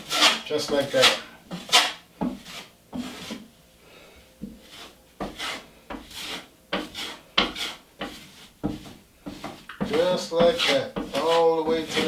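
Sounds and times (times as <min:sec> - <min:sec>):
drywall knife scraping compound: 0:00.0 - 0:03.5, 0:04.6 - 0:12.0.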